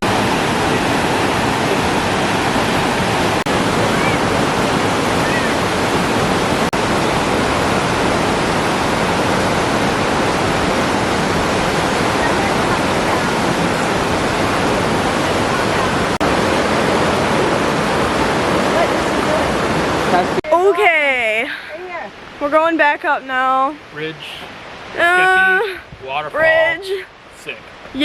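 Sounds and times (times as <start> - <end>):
waterfall rushing: 0.0 - 23.1, 23.8 - 27.8.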